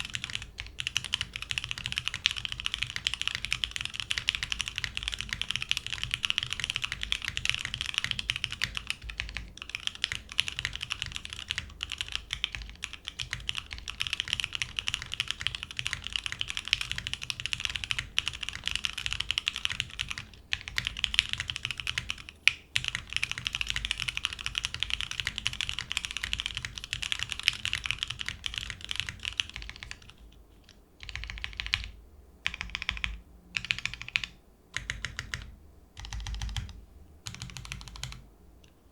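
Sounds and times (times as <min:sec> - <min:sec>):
mechanical keyboard typing: 0:00.0 - 0:38.2.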